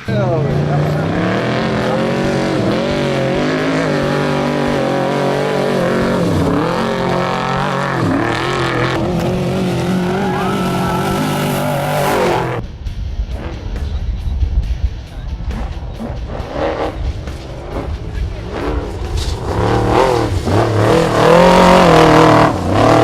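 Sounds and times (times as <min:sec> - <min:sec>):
truck engine at high revs: 0:00.0 - 0:12.6, 0:15.4 - 0:23.0.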